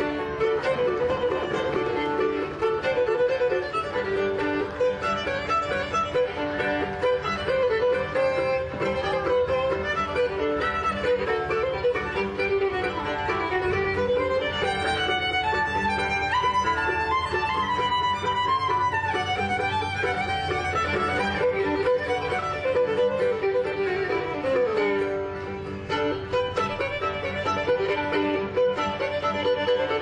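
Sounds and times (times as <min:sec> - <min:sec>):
plucked strings: 0:00.0 - 0:30.0
violin melody: 0:00.0 - 0:30.0.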